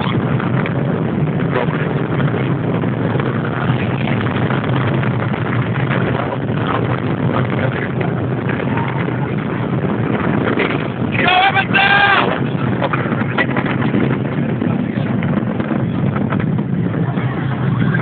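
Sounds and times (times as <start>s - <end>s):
distant rocket rumble with crackling: 0.0s - 18.0s.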